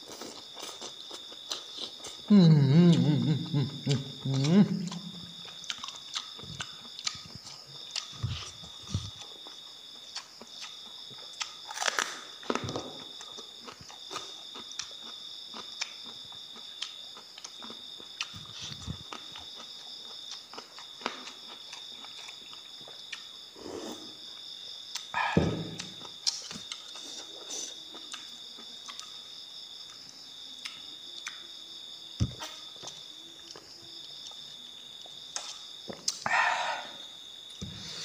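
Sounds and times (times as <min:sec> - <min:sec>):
chewing and crunching vegetables: 0:00.0 - 0:37.6
insects trilling: 0:00.0 - 0:38.0.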